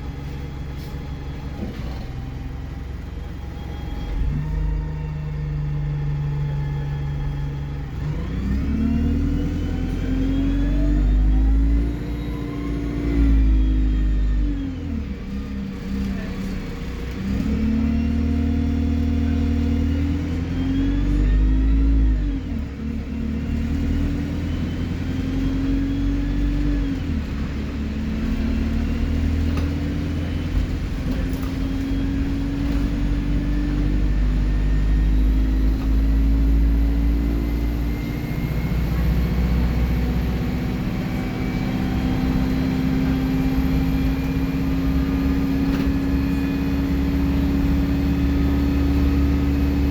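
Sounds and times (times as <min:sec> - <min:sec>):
bus engine pulling under load: 0:00.0 - 0:49.9.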